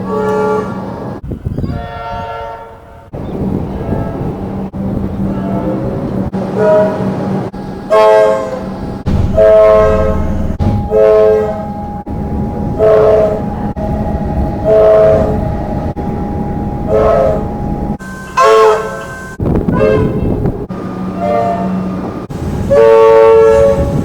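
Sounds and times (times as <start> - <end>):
train horn short blasts: 0.0 - 1.1, 1.7 - 4.4, 6.5 - 15.9, 16.9 - 20.5, 21.1 - 24.0
train running noise: 0.0 - 24.0.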